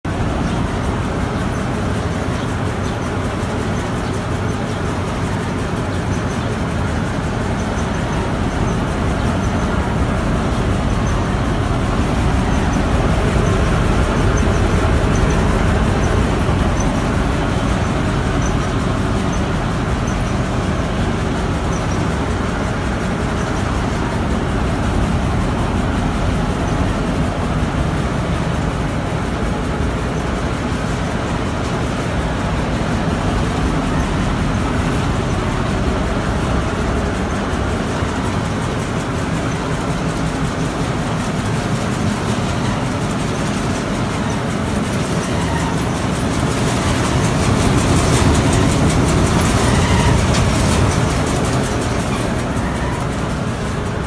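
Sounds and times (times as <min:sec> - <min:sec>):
seed-cleaning machine running: 0:00.1 - 0:54.0.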